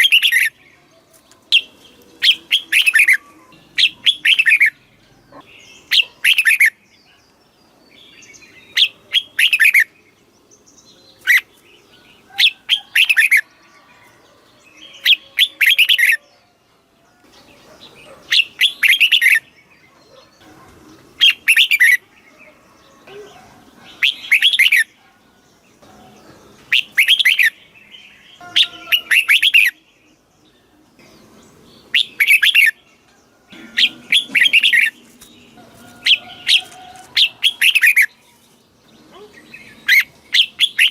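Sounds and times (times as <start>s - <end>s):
faint bird chatter: 0.0s - 40.9s.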